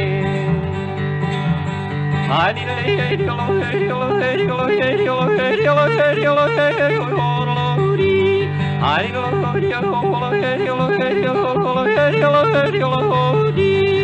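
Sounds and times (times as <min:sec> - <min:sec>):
instrumental accompaniment: 0:00.0 - 0:14.0
man yodeling: 0:02.3 - 0:14.0.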